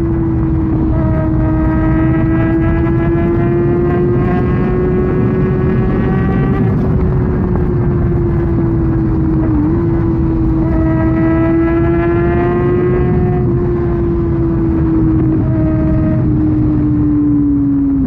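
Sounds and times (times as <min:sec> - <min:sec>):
motorcycle engine at high revs: 0:00.0 - 0:18.0
wind noise rushing: 0:00.0 - 0:18.0.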